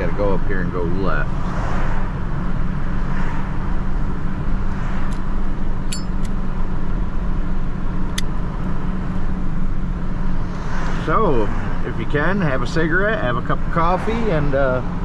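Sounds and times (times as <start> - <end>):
engine and road rumble in car: 0.0 - 15.0.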